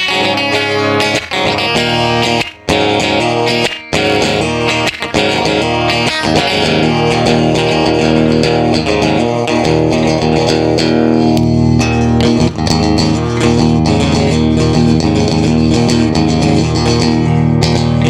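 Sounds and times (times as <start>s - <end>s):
electric guitar notes ringing: 0.0s - 18.0s.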